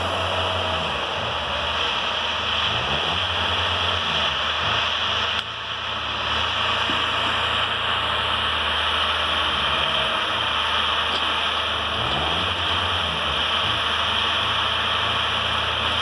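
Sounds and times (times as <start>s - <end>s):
diesel machinery engines droning: 0.0s - 16.0s.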